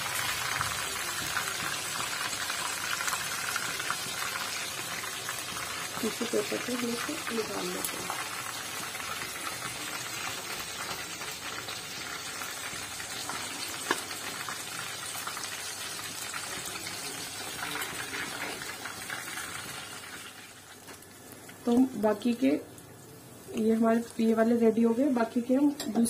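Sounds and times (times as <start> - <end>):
chicken deep-frying in hot oil: 0.0 - 26.0.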